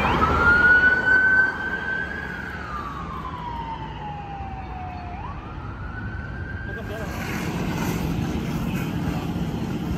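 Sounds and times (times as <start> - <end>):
emergency siren wailing: 0.0 - 9.9.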